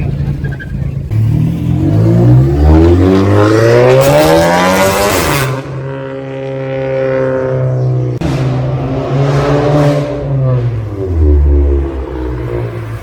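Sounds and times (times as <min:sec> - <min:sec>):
car engine accelerating: 0:00.0 - 0:13.0
rushing exhaust: 0:00.0 - 0:13.0.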